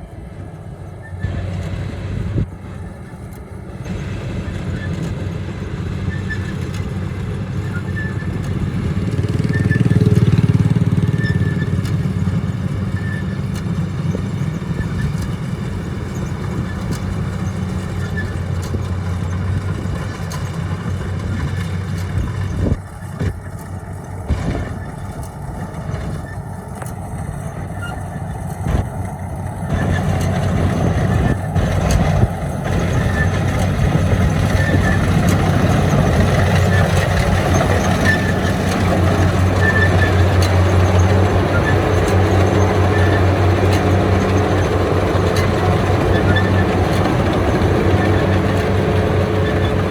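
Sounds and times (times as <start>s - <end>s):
harvester engine droning: 0.0s - 49.9s.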